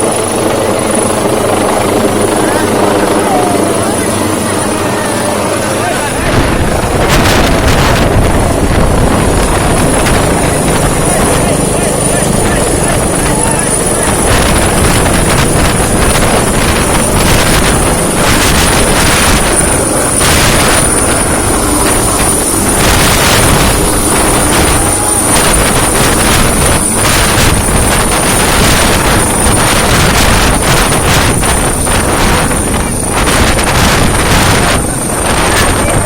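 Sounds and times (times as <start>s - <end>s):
downwash buffeting microphone: 0.0s - 36.0s
helicopter rotor and engine: 0.0s - 36.0s
high turbine whine: 0.0s - 36.0s.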